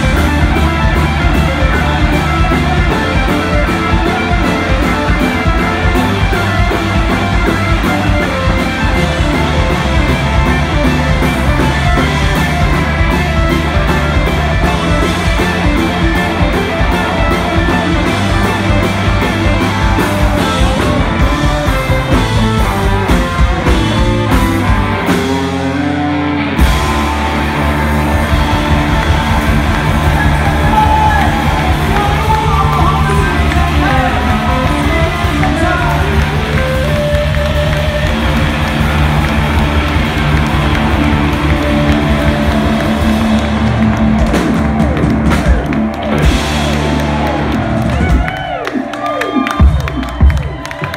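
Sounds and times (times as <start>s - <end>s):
bass guitar: 0.0s - 50.9s
distorted electric guitars: 0.0s - 50.9s
drum kit beat: 0.0s - 50.9s.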